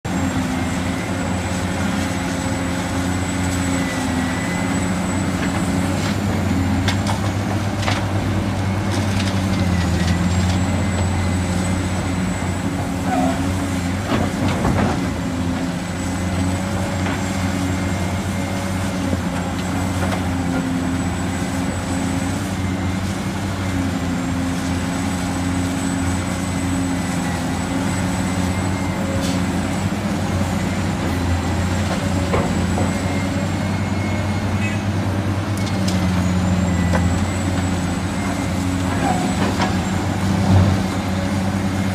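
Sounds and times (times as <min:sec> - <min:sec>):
diesel machinery engine drone: 0:00.0 - 0:41.9.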